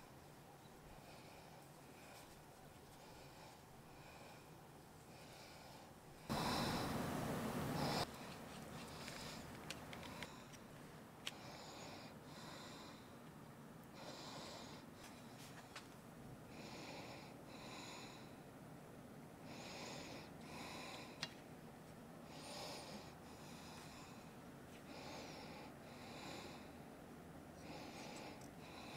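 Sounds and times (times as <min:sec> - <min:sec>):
person breathing quietly: 0:00.0 - 0:18.6, 0:19.4 - 0:21.4, 0:22.0 - 0:28.9.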